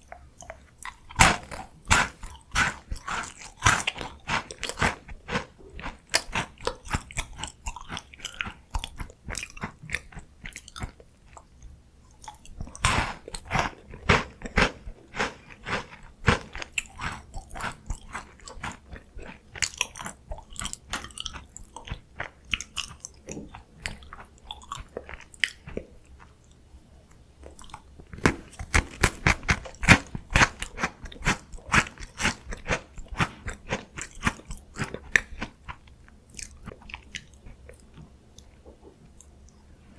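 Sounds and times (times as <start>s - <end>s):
crunching and chewing snacks: 0.0s - 39.6s.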